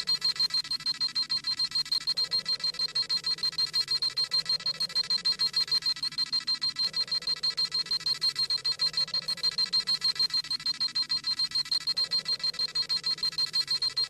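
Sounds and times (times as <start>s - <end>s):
rapid high-pitched electronic beeping: 0.0s - 14.0s.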